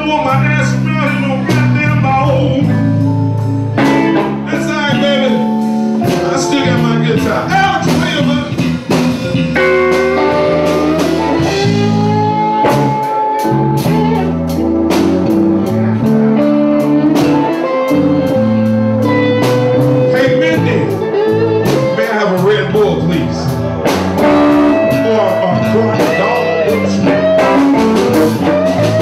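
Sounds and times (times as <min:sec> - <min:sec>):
bass guitar: 0:00.0 - 0:29.0
lead guitar bending long notes: 0:00.0 - 0:29.0
steady drum beat: 0:00.0 - 0:29.0.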